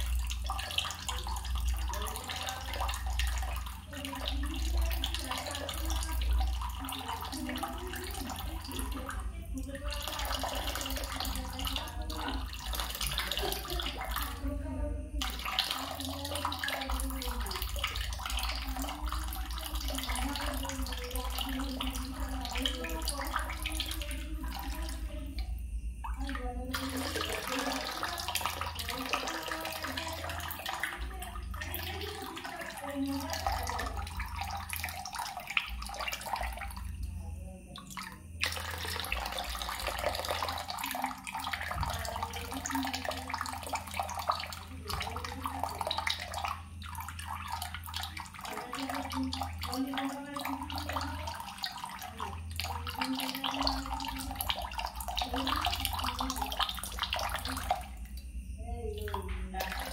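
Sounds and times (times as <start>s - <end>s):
running water rushing: 0.0s - 14.6s, 15.2s - 37.0s, 37.8s - 58.0s.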